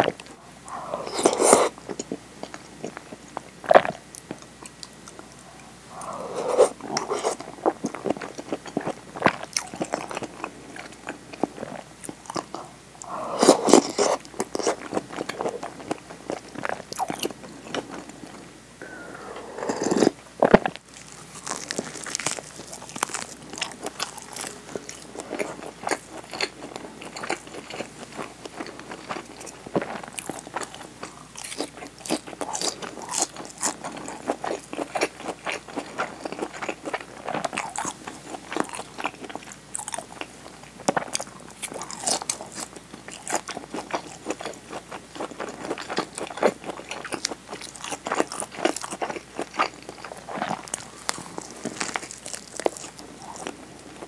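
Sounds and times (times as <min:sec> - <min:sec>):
crunchy biting and wet chewing: 0:00.0 - 0:18.4, 0:19.3 - 0:54.0.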